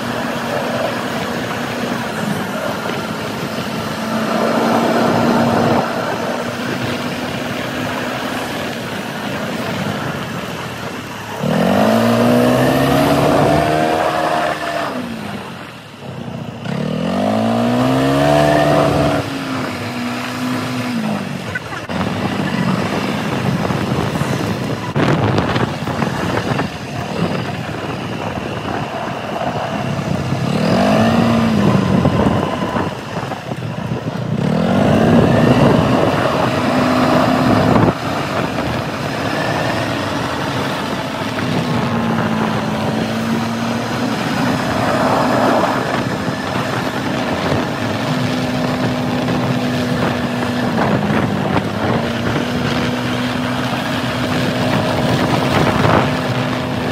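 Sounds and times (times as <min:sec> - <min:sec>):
quad bike engine revving: 0:00.0 - 0:56.9
road noise: 0:00.0 - 0:56.9
wind: 0:00.0 - 0:56.9.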